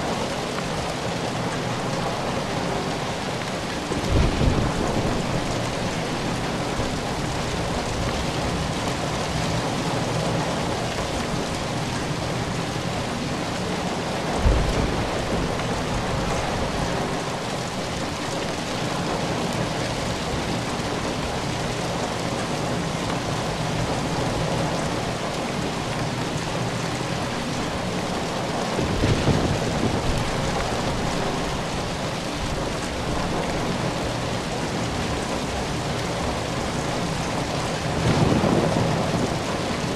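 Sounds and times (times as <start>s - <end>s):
dense rainfall: 0.0s - 39.9s
low rumbles of thunder: 3.9s - 12.5s, 13.8s - 39.9s.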